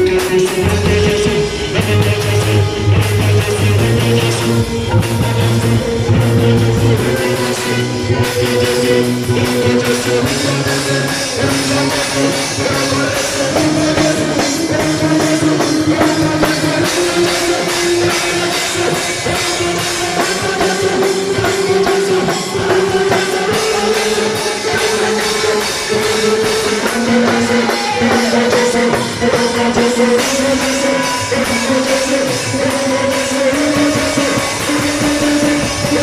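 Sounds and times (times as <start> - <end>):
held melody line: 0.0 - 36.0
rock music: 0.0 - 36.0.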